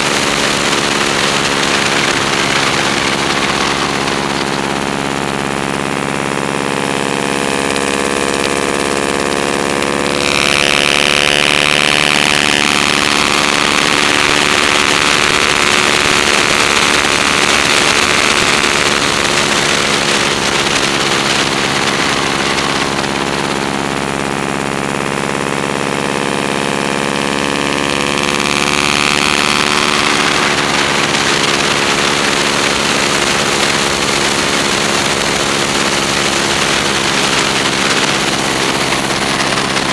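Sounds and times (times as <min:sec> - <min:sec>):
radial engine running: 0:00.0 - 0:39.9.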